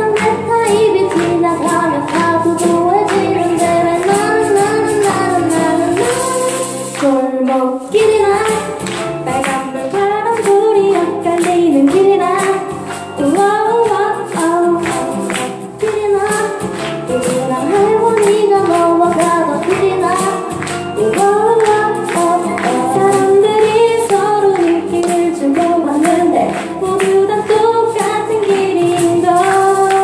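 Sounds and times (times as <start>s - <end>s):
live band playing: 0.0s - 30.0s
person singing: 0.0s - 30.0s.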